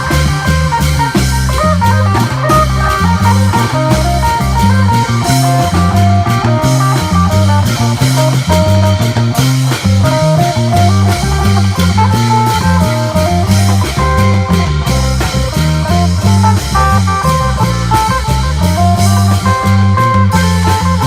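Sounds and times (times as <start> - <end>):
bass guitar line: 0.0 - 21.0
drums beat: 0.0 - 21.0
electric plucked lute melody: 0.0 - 21.0.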